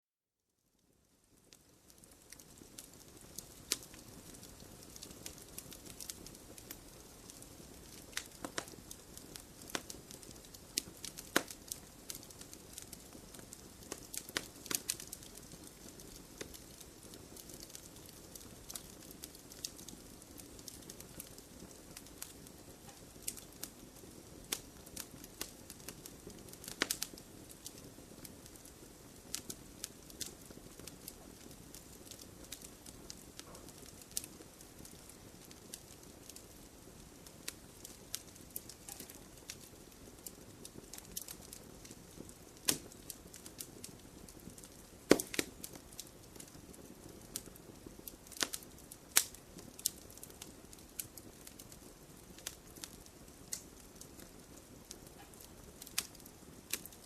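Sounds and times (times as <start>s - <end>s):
burning wood crackling and popping: 0.8s - 57.0s
low hiss of flames: 0.8s - 57.0s.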